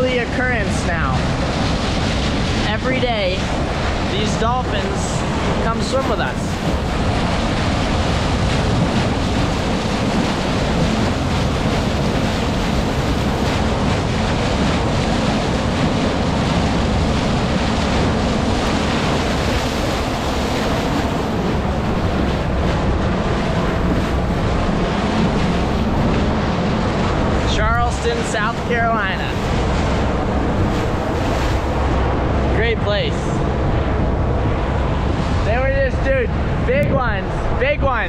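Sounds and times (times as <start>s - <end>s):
boat engine running low: 0.0s - 38.0s
bow wave splashing along hull: 0.0s - 38.0s
wind buffeting microphone: 0.0s - 38.0s.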